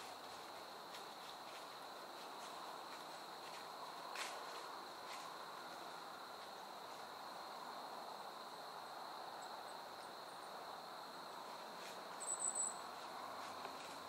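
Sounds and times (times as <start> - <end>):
high-pitched cricket drone: 0.0 - 14.0.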